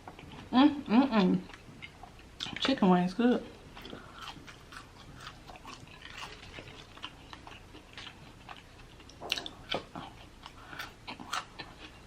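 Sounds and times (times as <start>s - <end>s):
chewing crispy fried chicken: 0.0s - 2.8s, 3.5s - 12.0s.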